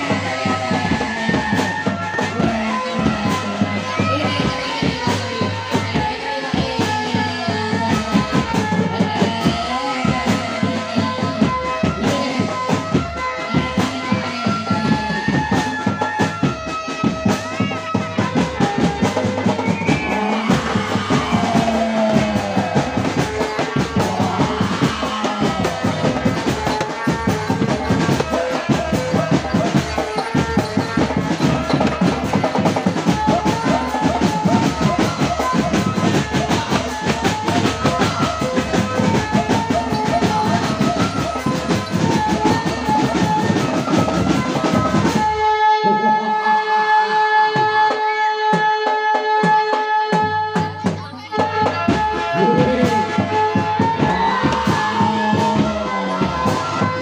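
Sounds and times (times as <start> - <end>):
fast dense drumming: 0.0 - 45.3, 50.9 - 57.0.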